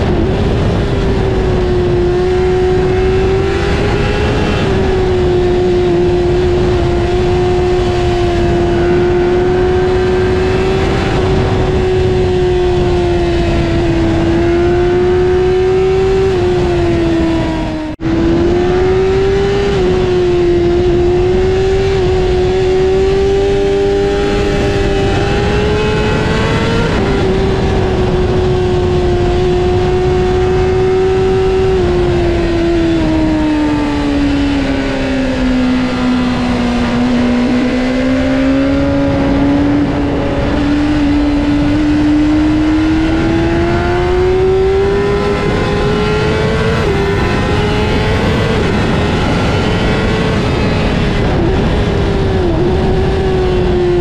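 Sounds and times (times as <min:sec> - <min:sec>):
heavy wind rush: 0:00.0 - 0:54.0
motorcycle engine at high revs: 0:00.0 - 0:54.0.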